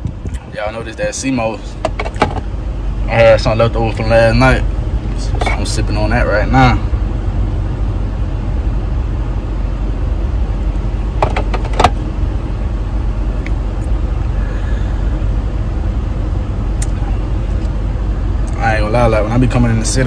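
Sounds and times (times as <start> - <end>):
car idling: 0.0 - 20.0.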